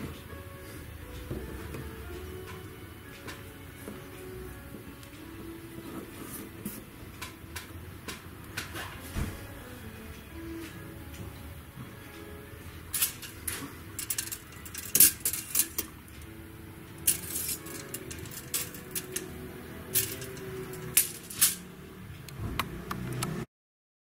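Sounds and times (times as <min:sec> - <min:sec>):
faint background music: 0:00.0 - 0:23.5.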